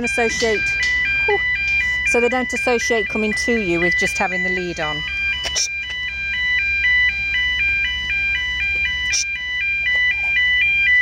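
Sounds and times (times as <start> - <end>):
steady low rumble: 0.0 - 11.0
two-tone electronic alarm: 0.0 - 11.0.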